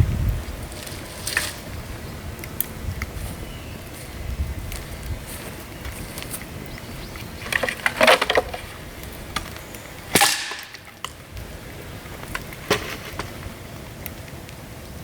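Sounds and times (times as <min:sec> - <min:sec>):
dry bamboo cracking: 0:00.6 - 0:03.3, 0:03.9 - 0:14.6.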